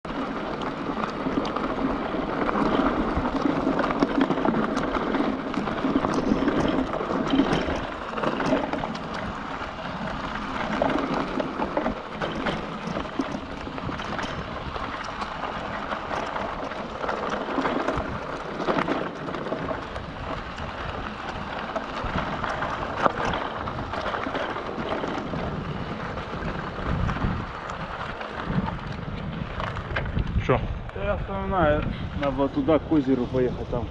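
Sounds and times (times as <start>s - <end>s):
bike rattling: 0.0s - 33.9s
bike tyres rolling over stones: 0.0s - 33.9s.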